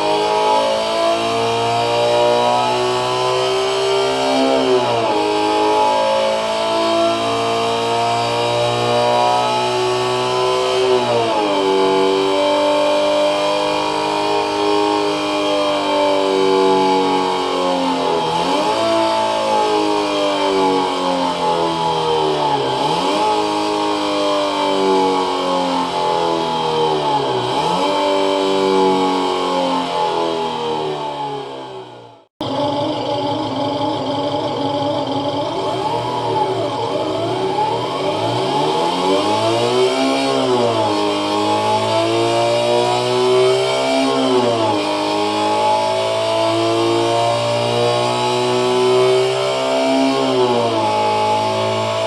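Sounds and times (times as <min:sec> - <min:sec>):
buzzy synthetic engine sound: 0:00.0 - 0:52.0.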